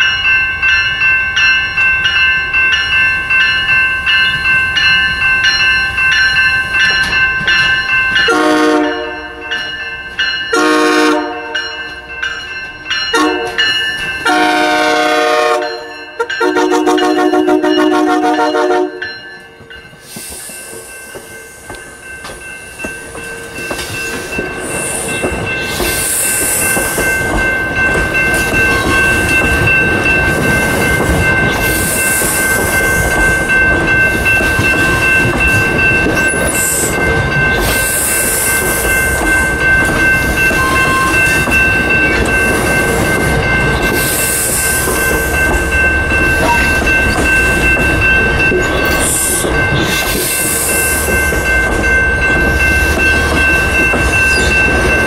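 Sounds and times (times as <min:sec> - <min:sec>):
crossing signal bell ringing: 0:00.0 - 0:55.0
train wheels rumbling on rails: 0:00.0 - 0:55.0.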